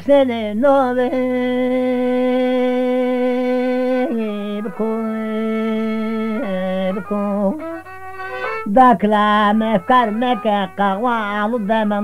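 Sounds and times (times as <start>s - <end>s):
man singing a lament: 0.0s - 7.6s, 8.6s - 12.0s.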